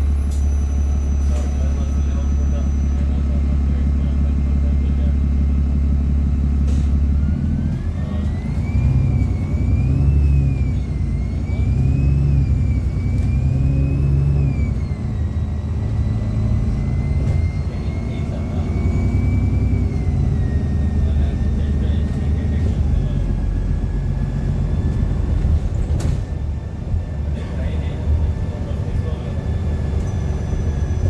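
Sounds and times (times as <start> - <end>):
bus engine accelerating: 0.0 - 31.0.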